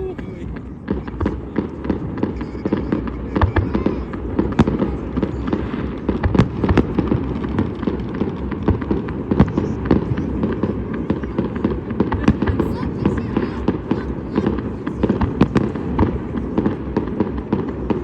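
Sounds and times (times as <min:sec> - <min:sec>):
fireworks and firecrackers banging: 0:00.0 - 0:18.0.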